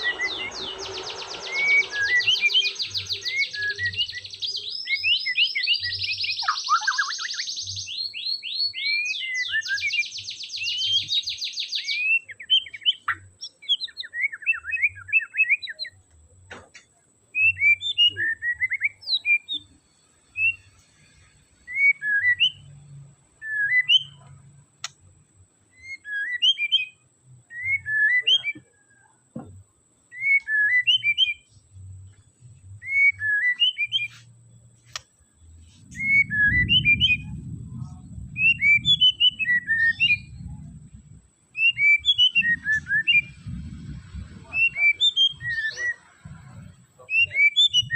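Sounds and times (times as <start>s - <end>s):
songbird trilling and whistling: 0.0s - 16.0s, 17.4s - 21.1s, 21.7s - 22.8s, 23.4s - 25.0s, 25.7s - 29.1s, 30.1s - 31.6s, 32.8s - 47.9s.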